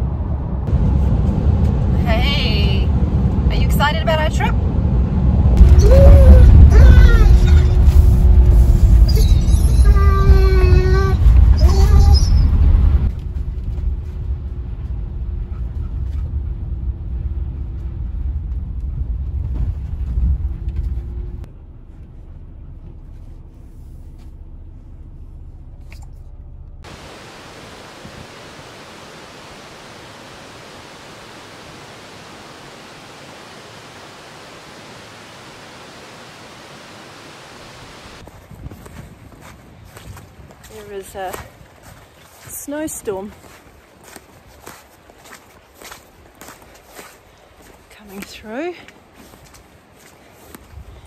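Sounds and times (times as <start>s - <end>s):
truck cab road rumble: 0.0s - 42.5s.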